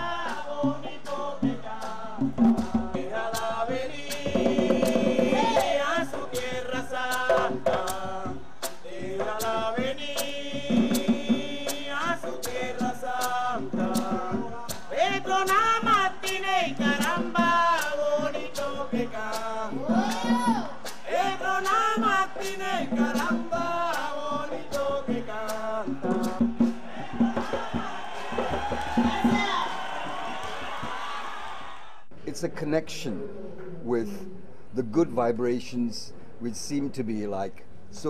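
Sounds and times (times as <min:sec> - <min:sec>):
voices singing folk song: 0:00.0 - 0:31.2.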